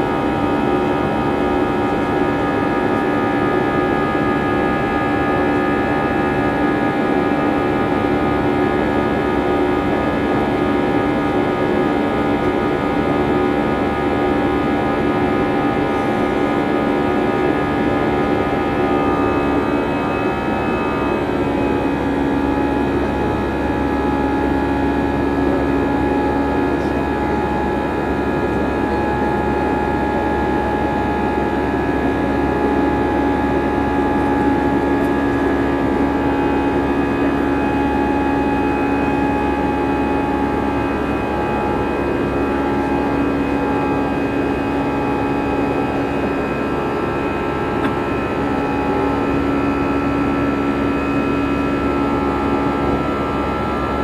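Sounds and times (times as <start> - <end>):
jet engine roar in cabin: 0.0 - 54.0.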